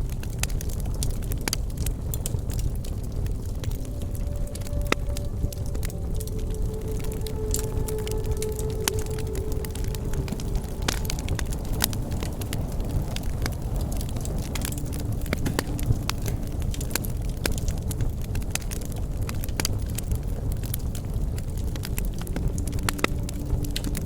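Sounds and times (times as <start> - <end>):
low rumble of burning: 0.0 - 24.0
wood fire crackling and popping: 0.0 - 24.0.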